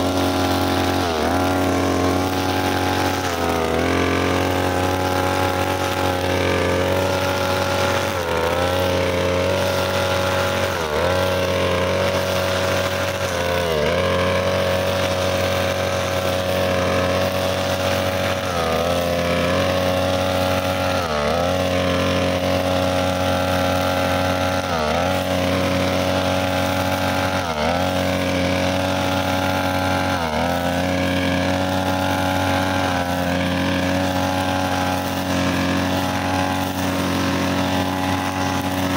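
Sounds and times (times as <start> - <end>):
brushcutter running at high revs: 0.0 - 38.9.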